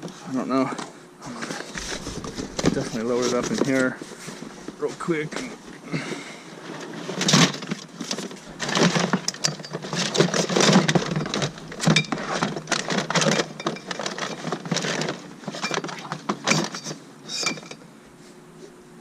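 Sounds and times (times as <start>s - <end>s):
scrap clattering and rustling: 0.0s - 5.6s, 6.6s - 17.8s.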